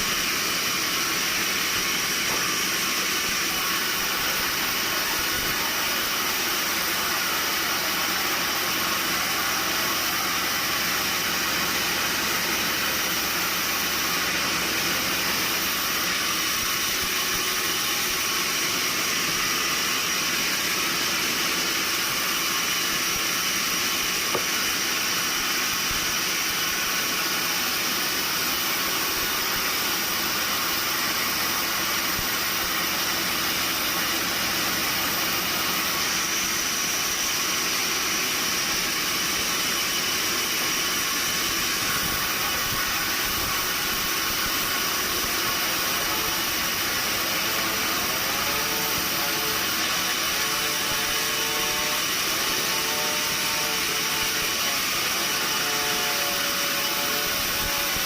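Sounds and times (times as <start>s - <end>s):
sawmill machinery hiss: 0.0s - 58.0s.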